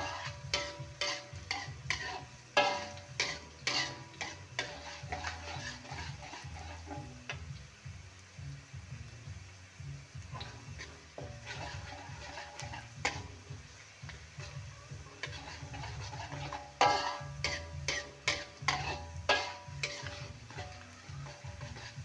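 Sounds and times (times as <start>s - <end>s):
metal spatula scraping wok: 0.0s - 7.7s, 10.2s - 22.0s
oil sizzling: 0.0s - 22.0s.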